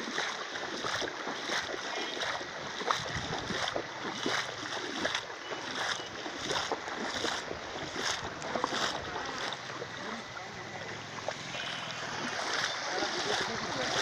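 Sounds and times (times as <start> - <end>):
floodwater splashing: 0.0 - 14.0.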